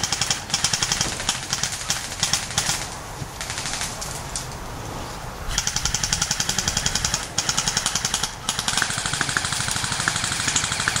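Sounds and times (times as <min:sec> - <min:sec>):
airsoft gun firing full auto: 0:00.0 - 0:04.0, 0:05.5 - 0:11.0.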